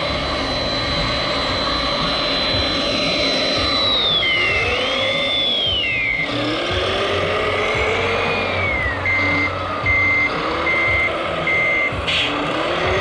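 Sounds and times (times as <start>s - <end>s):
electronic reversing beeper: 0.0s - 13.0s
simulated diesel engine: 0.0s - 13.0s.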